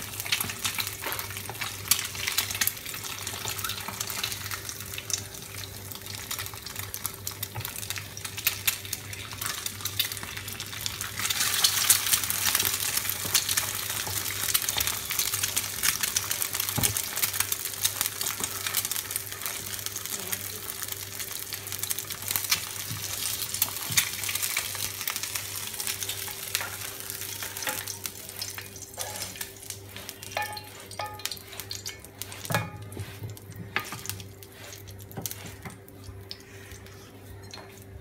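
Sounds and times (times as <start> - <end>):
eggs sizzling in oil: 0.0 - 38.0.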